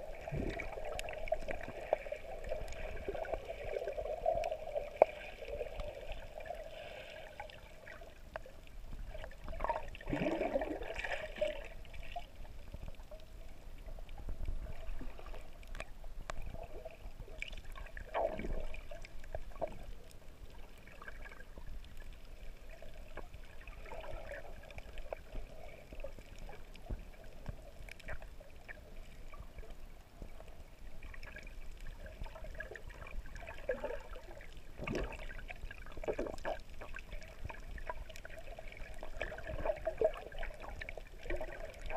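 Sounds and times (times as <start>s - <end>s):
muffled underwater sloshing: 0.0s - 41.9s.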